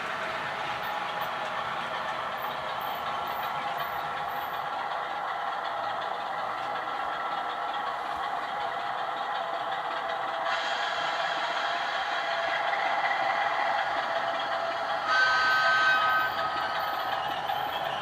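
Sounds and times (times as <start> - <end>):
model train diesel engine sound: 0.0 - 18.0.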